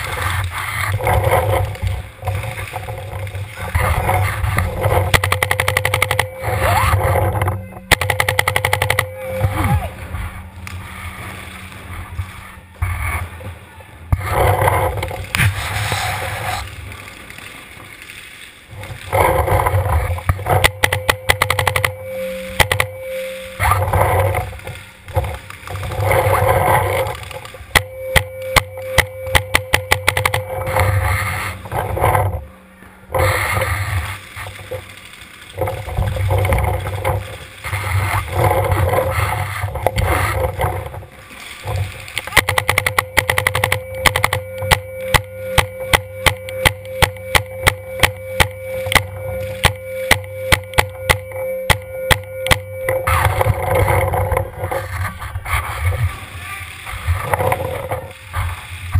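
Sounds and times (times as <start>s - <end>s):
steady whine: 0.0s - 58.9s.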